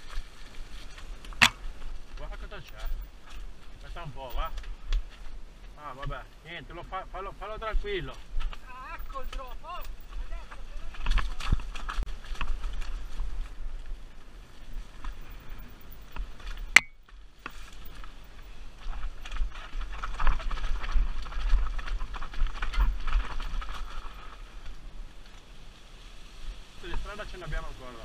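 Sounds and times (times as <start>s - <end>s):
tyres crunching over rock: 0.0s - 6.3s, 7.2s - 24.8s
wind rumble on microphone: 0.0s - 16.8s, 17.8s - 28.0s
bike rattling: 0.0s - 25.8s.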